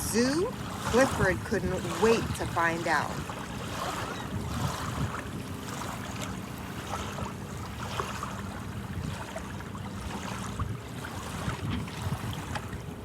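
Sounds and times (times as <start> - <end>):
ocean surf washing: 0.0 - 13.0
wind rumble on microphone: 0.0 - 13.0.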